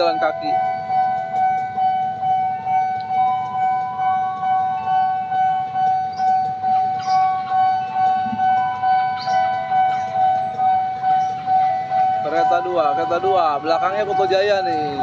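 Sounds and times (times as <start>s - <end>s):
level crossing bell dinging: 0.0s - 15.0s.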